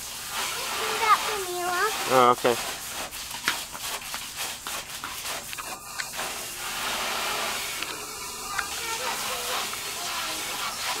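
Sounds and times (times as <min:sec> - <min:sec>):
hose nozzle spraying water: 0:00.0 - 0:11.0.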